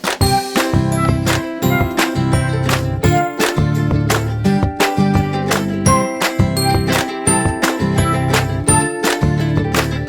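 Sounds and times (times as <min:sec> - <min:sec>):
plucked guitar: 0:00.0 - 0:10.0
upbeat background music: 0:00.0 - 0:10.0
bell-like notes: 0:00.2 - 0:04.6, 0:05.8 - 0:09.9.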